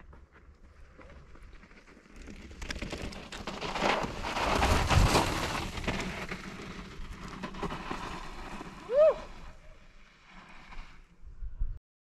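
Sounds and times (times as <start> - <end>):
bike tyres crunching on gravel: 0.0 - 11.1.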